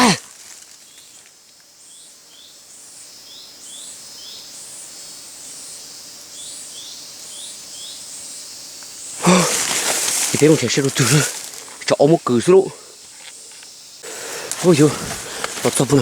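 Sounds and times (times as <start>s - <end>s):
forest background hiss: 0.0s - 16.0s.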